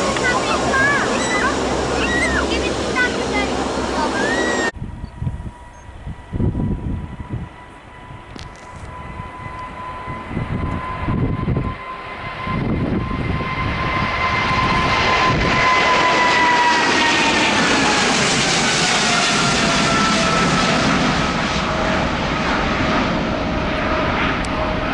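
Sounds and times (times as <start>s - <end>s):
jet airliner taking off: 0.0s - 24.9s.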